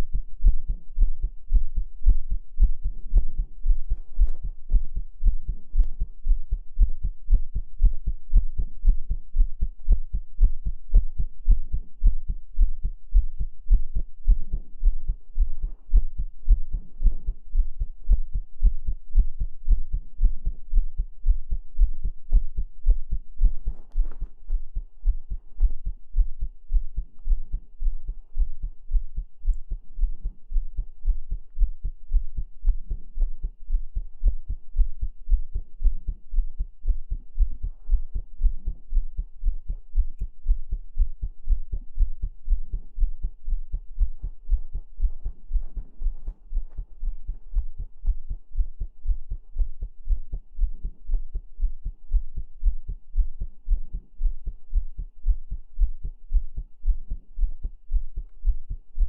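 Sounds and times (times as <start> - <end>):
heartbeat thumps: 0.0 - 59.0.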